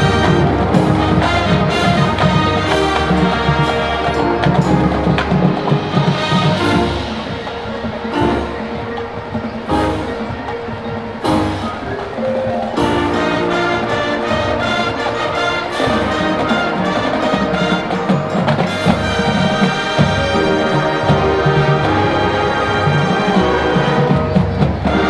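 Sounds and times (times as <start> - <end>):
marching band playing rock: 0.0 - 25.0.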